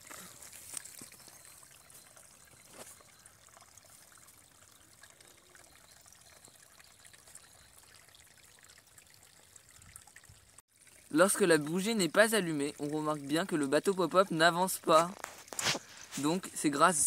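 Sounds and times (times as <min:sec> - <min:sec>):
faint water trickling: 0:00.0 - 0:17.0.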